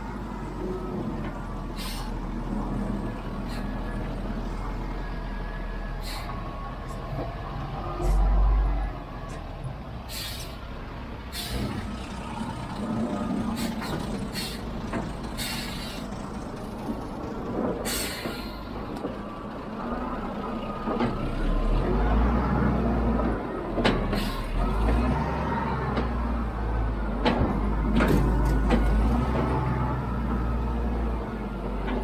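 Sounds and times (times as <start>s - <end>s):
diesel machinery running: 0.0s - 32.0s.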